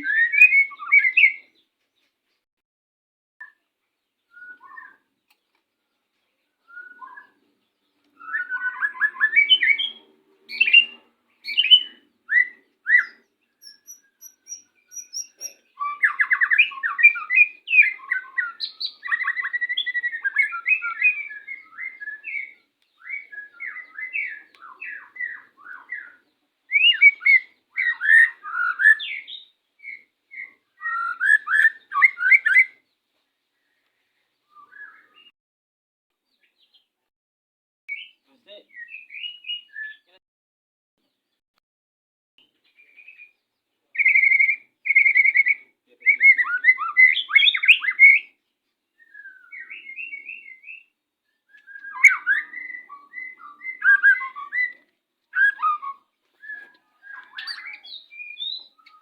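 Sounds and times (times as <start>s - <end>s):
birds singing and calling: 0.0s - 2.4s, 3.4s - 35.3s, 36.2s - 37.0s, 37.9s - 40.2s, 42.4s - 59.0s.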